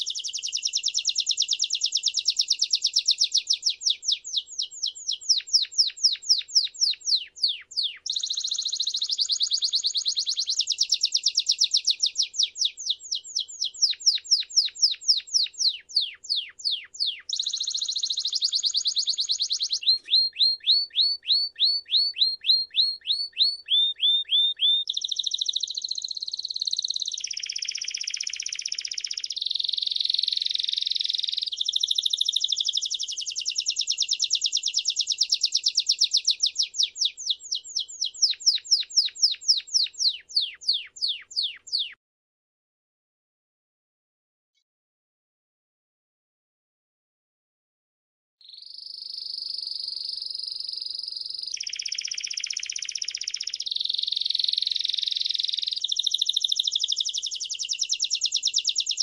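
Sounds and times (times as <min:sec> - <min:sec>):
canary singing trills: 0:00.0 - 0:42.0, 0:48.4 - 0:59.0.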